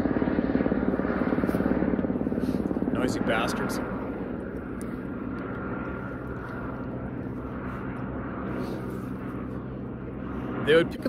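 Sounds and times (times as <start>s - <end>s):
aircraft engine drone: 0.0s - 11.0s.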